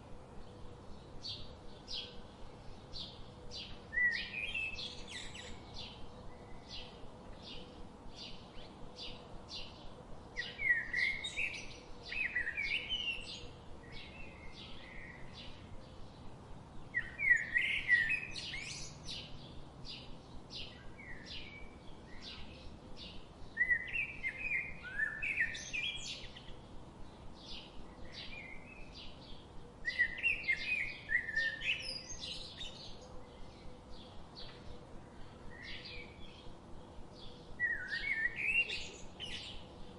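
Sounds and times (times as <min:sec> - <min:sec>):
bird warbling song: 0:00.4 - 0:39.9.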